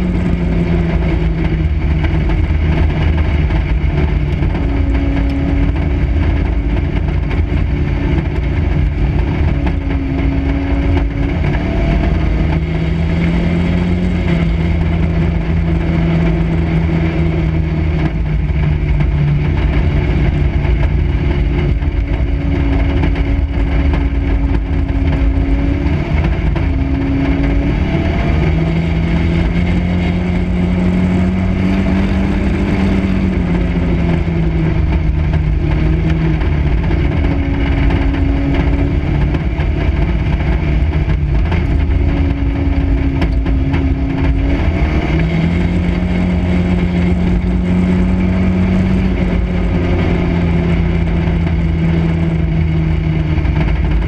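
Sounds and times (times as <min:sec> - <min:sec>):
car rattling: 0:00.0 - 0:54.0
race car engine revving: 0:00.0 - 0:54.0.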